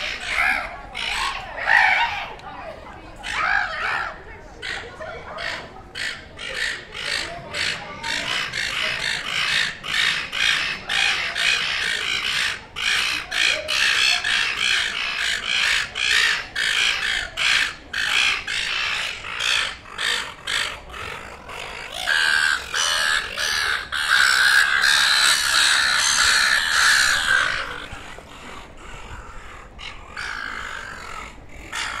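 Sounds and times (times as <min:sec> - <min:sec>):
gulls calling: 0:00.0 - 0:32.0.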